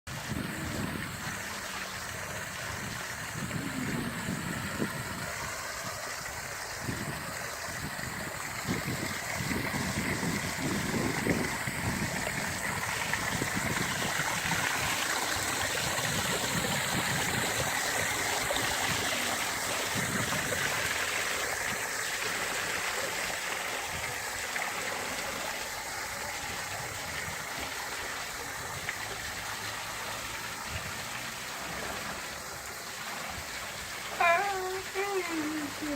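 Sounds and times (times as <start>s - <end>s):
waterfall pouring and splashing: 0.1s - 35.9s.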